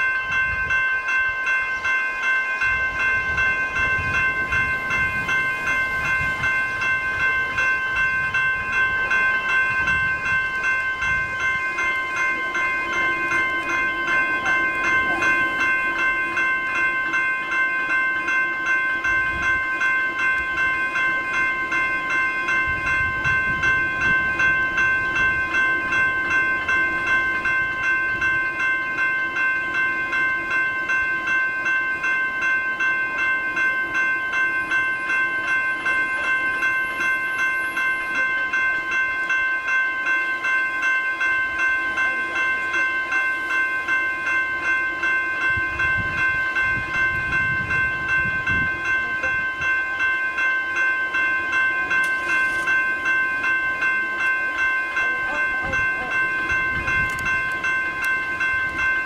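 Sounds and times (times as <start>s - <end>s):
level crossing bells ringing: 0.0s - 59.0s.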